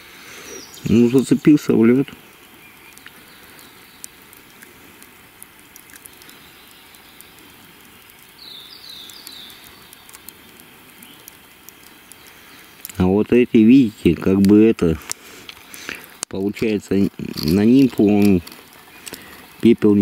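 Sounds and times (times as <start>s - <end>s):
small bird chirping: 0.3s - 15.0s, 15.6s - 20.0s
faint clicks: 2.1s - 13.1s, 14.0s - 19.7s.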